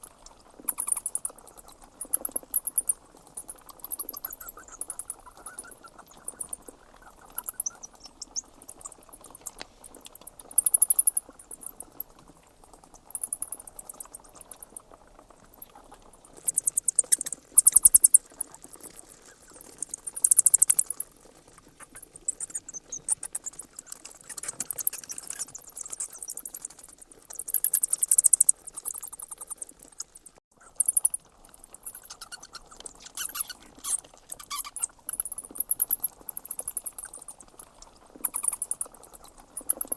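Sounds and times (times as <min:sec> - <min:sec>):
bats squeaking and chittering: 0:00.0 - 0:39.9.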